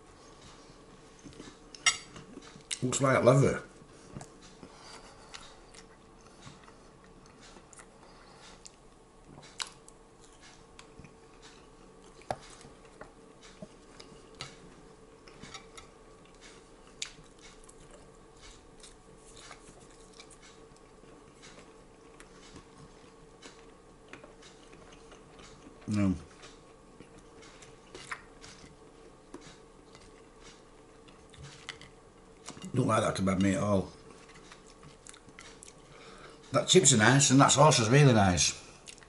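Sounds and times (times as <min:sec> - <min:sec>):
man chewing food: 0:00.0 - 0:02.9, 0:03.7 - 0:36.6, 0:38.6 - 0:39.0
faint steady hum: 0:00.0 - 0:39.0.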